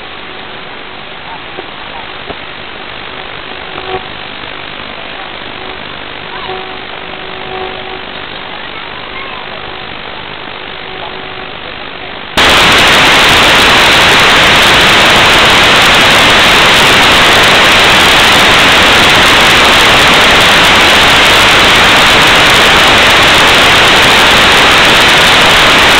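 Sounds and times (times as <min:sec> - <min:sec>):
faint steady hum: 0:00.0 - 0:25.9
loud static hiss: 0:00.0 - 0:25.9.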